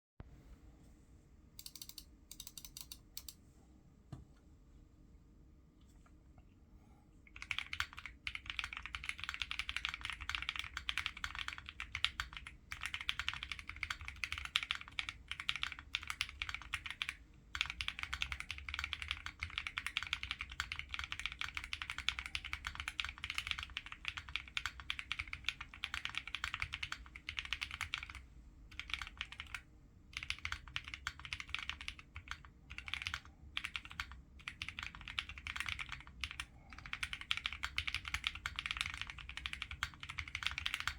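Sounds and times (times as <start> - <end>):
mechanical keyboard typing: 1.6 - 3.4, 7.4 - 40.9.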